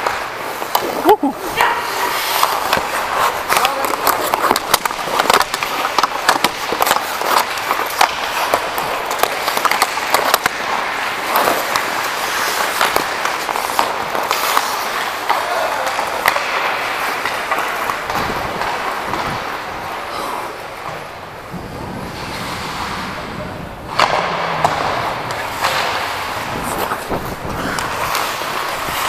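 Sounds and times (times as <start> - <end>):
hockey sticks and puck clacking: 0.0 - 29.0
skate blades scraping ice: 0.0 - 29.0.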